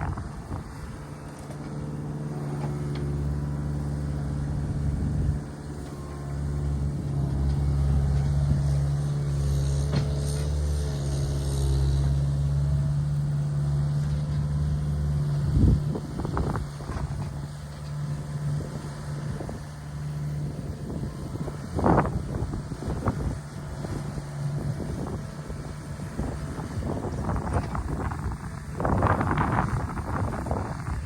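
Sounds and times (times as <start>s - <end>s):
machine engine running: 0.0s - 31.0s.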